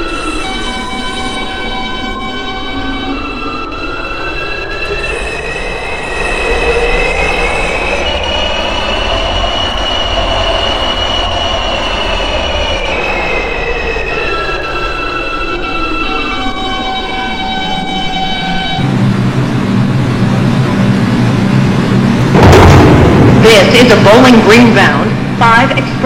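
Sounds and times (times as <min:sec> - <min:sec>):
train traction motors whining: 0:00.0 - 0:26.0
wheels rumbling on track: 0:00.0 - 0:26.0.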